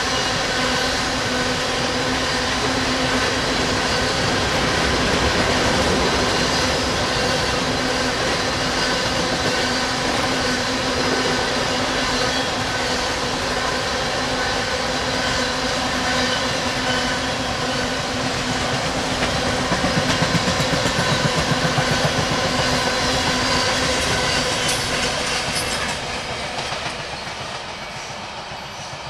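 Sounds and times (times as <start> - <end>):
freight train rolling past: 0.0 - 29.0.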